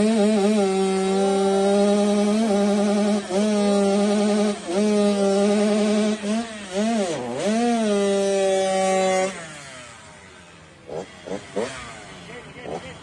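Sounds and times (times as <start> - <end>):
two-stroke motocross engine revving: 0.0 - 13.0.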